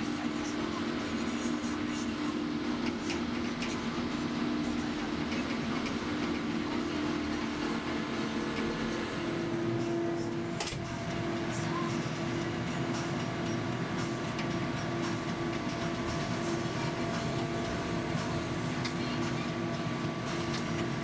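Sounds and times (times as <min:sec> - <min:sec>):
machine drone with low hum: 0:00.0 - 0:21.0.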